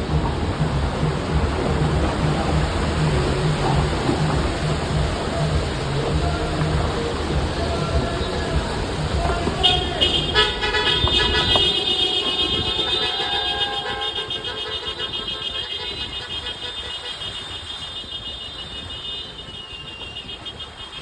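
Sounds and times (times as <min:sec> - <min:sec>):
vehicle horn blaring: 0:01.3 - 0:21.0.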